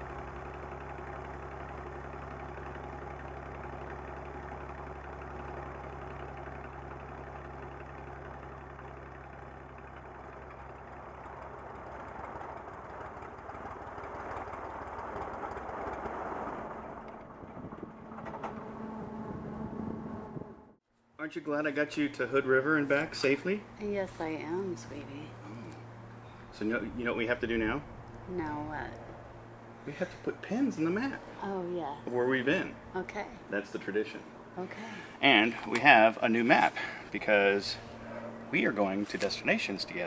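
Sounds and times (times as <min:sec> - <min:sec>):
light aircraft engine taxiing: 0:00.0 - 0:20.8, 0:21.6 - 0:40.0.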